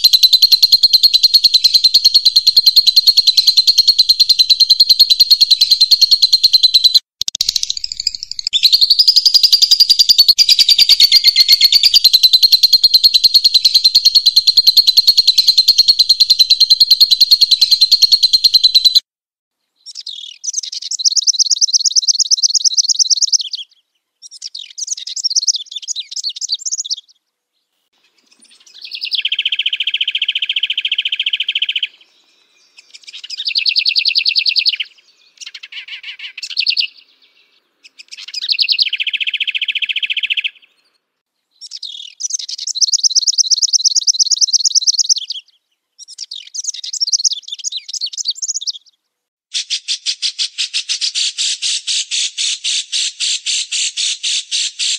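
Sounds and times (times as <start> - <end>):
songbird chirping trills: 0.0 - 19.0, 19.7 - 49.0.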